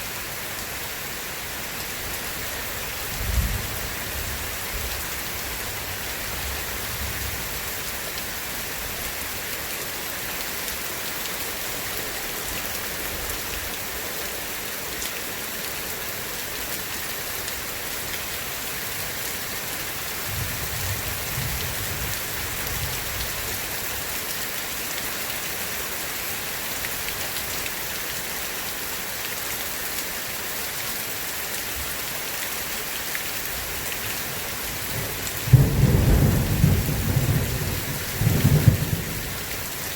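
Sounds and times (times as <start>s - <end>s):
rain pattering: 2.0s - 39.9s.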